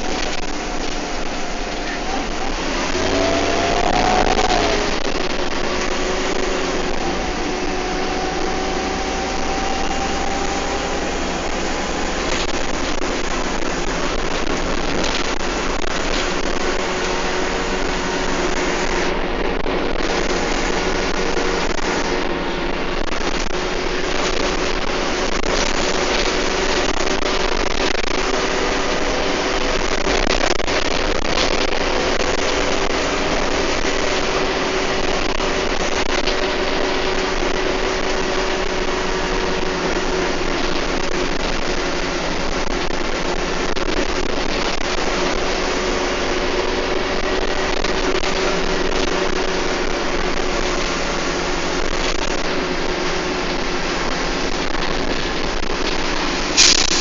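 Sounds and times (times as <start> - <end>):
bus engine drone: 0.0 - 57.0
road noise: 0.0 - 57.0
steady whine: 0.0 - 57.0.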